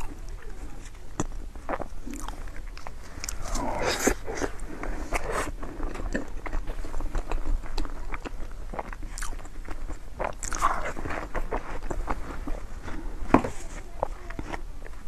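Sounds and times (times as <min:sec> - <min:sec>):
mouth noises: 0:00.0 - 0:15.0
person chewing and crunching: 0:00.0 - 0:15.0.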